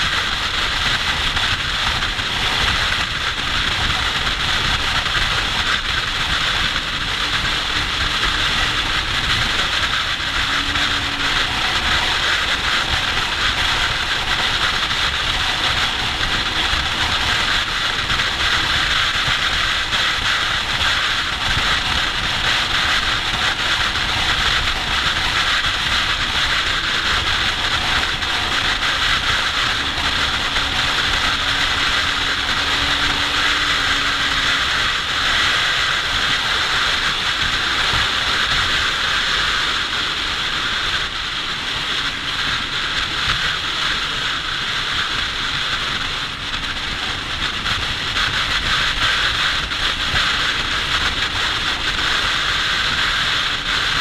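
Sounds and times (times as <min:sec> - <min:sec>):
motorcycle engine droning: 0:00.0 - 0:54.0
wind buffeting microphone: 0:00.0 - 0:54.0.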